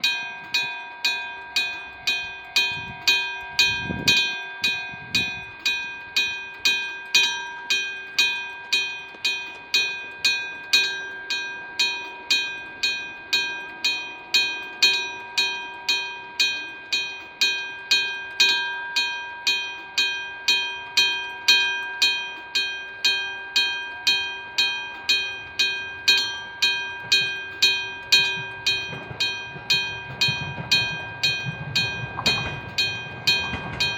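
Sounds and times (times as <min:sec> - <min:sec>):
level-crossing alarm bell: 0:00.0 - 0:33.9.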